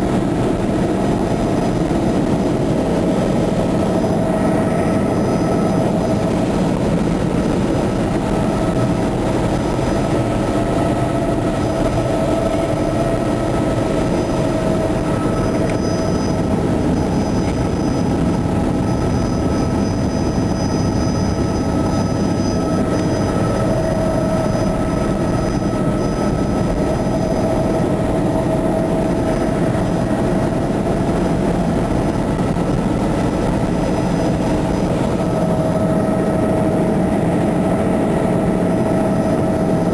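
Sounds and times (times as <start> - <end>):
helicopter engine and rotor drone: 0.0 - 39.9
whining tones: 0.5 - 39.9.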